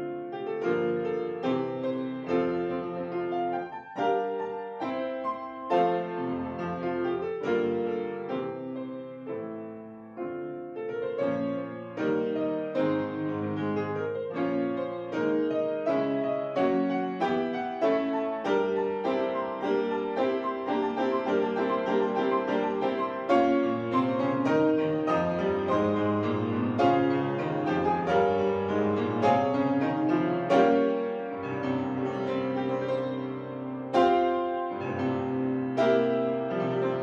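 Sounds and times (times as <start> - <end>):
grand piano playing: 0.0 - 37.0.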